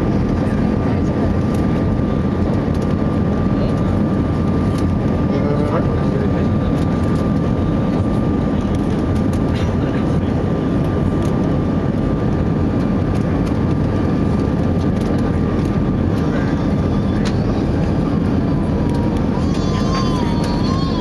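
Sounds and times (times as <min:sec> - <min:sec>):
airplane cabin rumble: 0:00.0 - 0:21.0
steady whine: 0:00.0 - 0:21.0.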